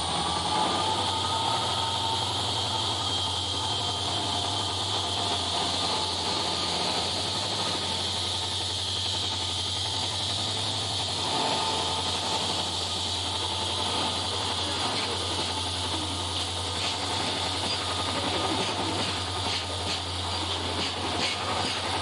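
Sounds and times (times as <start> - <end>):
diesel locomotive engine drone: 0.0 - 22.0
high turbocharger whine: 0.0 - 22.0.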